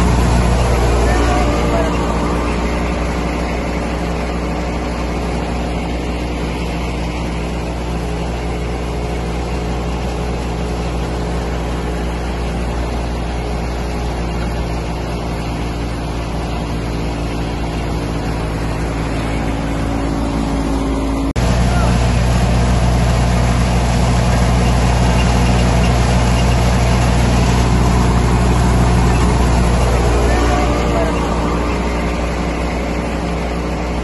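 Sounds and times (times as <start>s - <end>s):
thresher and tractor engine running: 0.0s - 34.0s.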